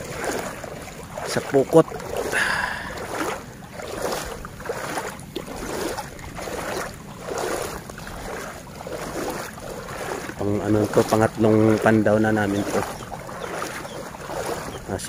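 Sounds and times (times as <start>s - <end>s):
wading through water: 0.0s - 15.0s.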